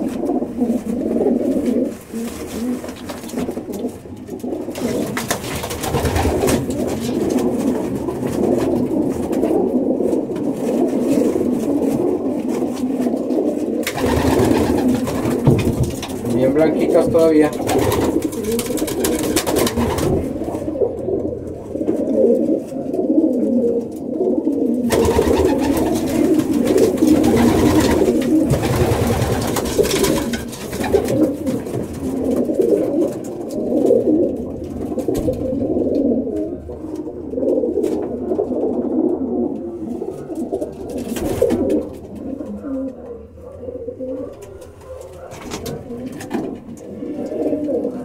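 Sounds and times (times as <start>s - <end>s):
rustling: 0.0s - 43.2s
pigeons cooing: 0.0s - 48.0s.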